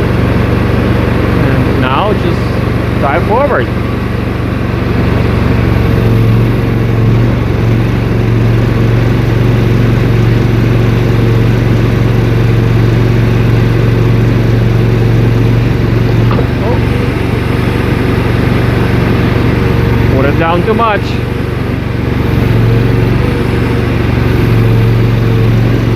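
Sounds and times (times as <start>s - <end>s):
gasoline engine running: 0.0s - 25.9s.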